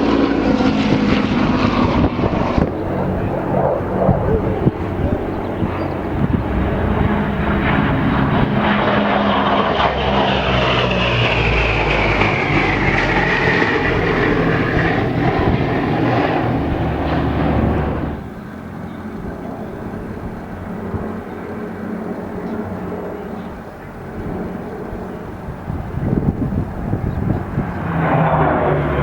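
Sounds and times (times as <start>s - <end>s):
airplane engines on low pass: 0.0s - 29.0s.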